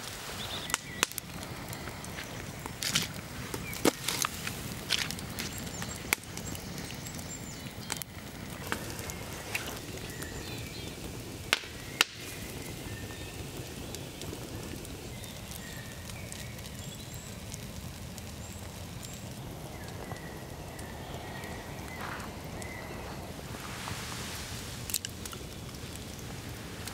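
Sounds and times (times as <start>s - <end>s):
log fire popping and cracking: 0.0s - 26.9s
steady fire hiss: 0.0s - 26.9s.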